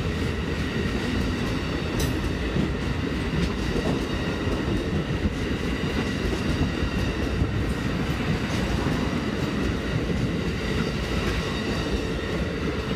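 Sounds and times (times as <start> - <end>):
train wheels rumbling on track: 0.0 - 12.9.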